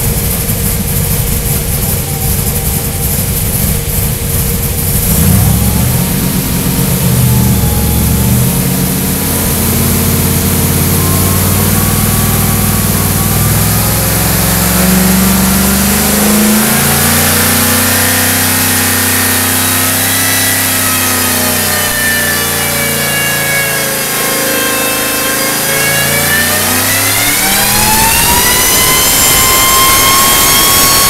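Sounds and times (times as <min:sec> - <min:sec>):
engine revving under load: 0:00.0 - 0:31.0
supercharger whine: 0:00.0 - 0:31.0.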